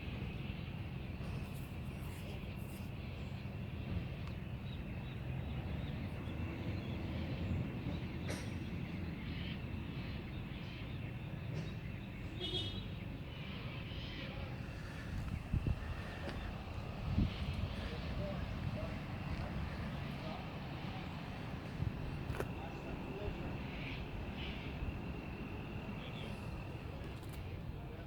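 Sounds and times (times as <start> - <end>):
car engine idling with deep rumble: 0.0 - 28.0.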